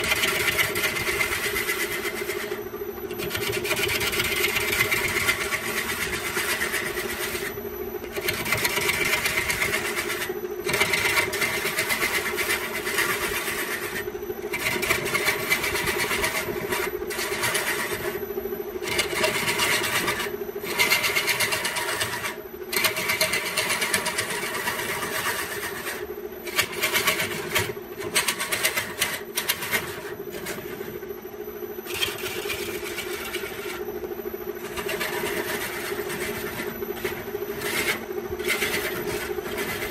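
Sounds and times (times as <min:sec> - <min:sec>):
wood lathe motor hum: 0:00.0 - 0:39.9.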